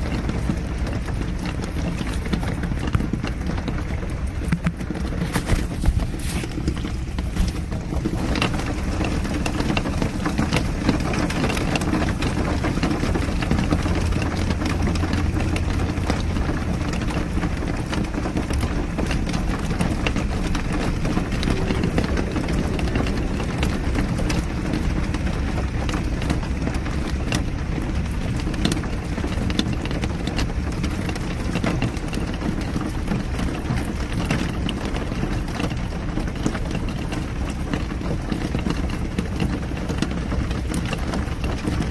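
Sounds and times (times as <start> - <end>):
engine and road rumble: 0.0 - 41.9
rain tapping: 0.0 - 41.9.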